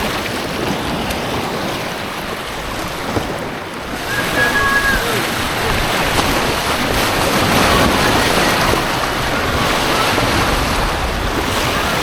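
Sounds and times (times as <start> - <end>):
white-water rapids rushing: 0.0 - 12.0.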